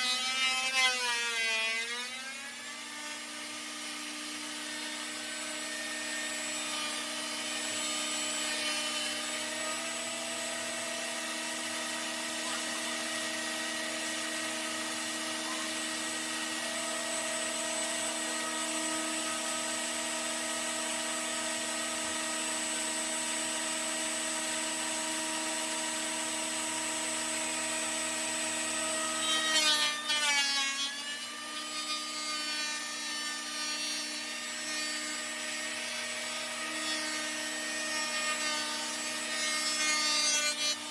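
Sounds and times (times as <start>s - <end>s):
planer whining: 0.0s - 40.9s.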